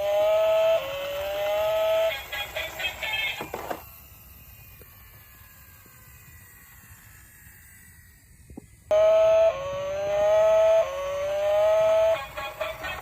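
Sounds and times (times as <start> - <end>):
toy siren buzzy tone: 0.0 - 7.3, 8.9 - 13.0.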